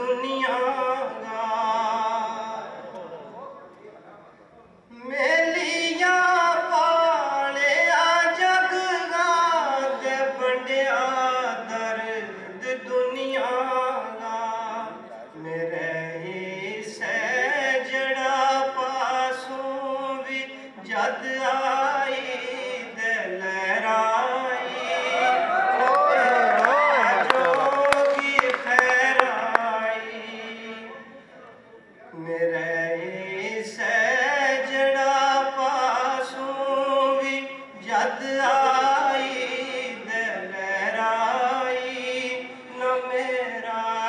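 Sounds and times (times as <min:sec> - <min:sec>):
man singing: 0:00.0 - 0:03.0, 0:04.9 - 0:31.4, 0:32.0 - 0:44.0.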